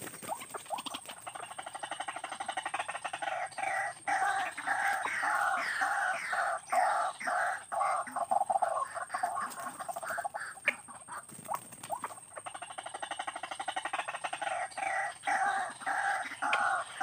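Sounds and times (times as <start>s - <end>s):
waterhen croaking calls: 0.0s - 17.0s.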